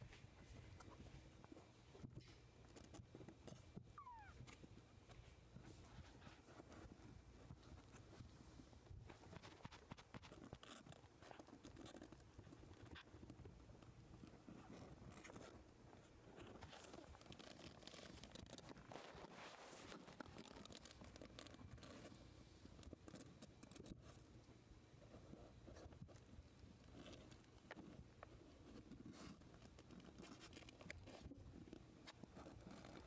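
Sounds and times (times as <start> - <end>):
kittens scratching on fabric: 0.0 - 33.0.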